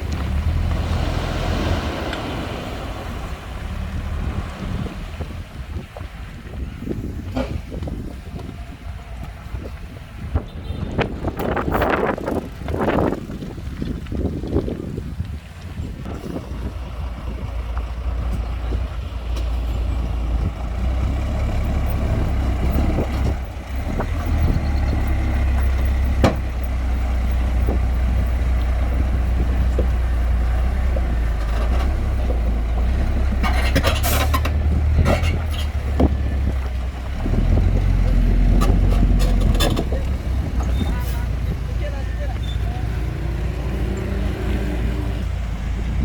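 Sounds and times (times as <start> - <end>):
heavy diesel engine droning: 0.0 - 13.2, 16.0 - 46.0.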